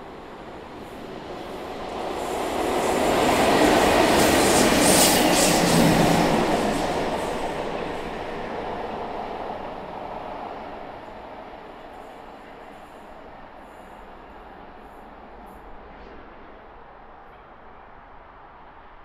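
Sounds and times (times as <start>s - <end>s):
train wheels rumbling on rails: 0.0s - 18.4s.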